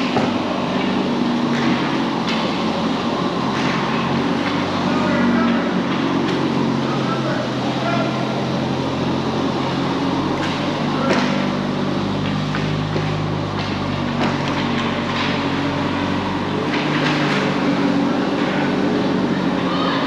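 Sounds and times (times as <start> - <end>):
hockey sticks and puck clacking: 0.0 - 20.0
low mechanical hum: 0.0 - 20.0.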